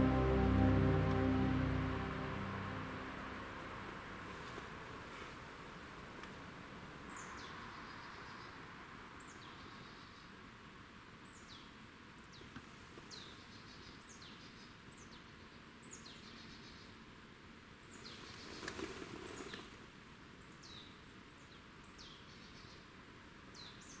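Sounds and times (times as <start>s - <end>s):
forest ambience hiss: 4.2s - 24.0s
rustle: 4.2s - 24.0s.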